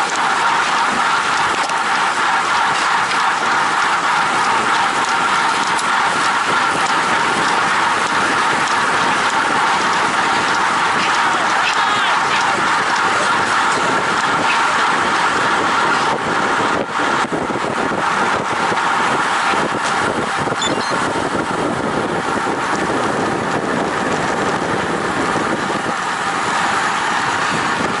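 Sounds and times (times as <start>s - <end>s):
bicycle tyres rolling on asphalt: 0.0s - 28.0s
wind rushing on microphone: 4.2s - 28.0s.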